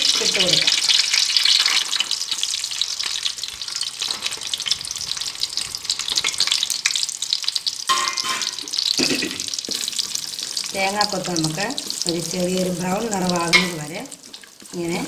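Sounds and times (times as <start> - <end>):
coconut crackling in hot oil: 0.0 - 15.0.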